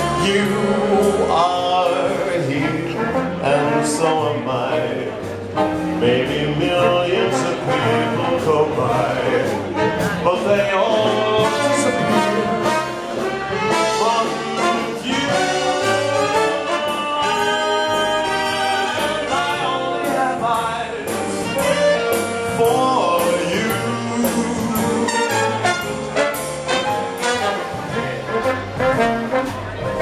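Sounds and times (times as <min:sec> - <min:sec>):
jazz dance band with brass: 0:00.0 - 0:30.0.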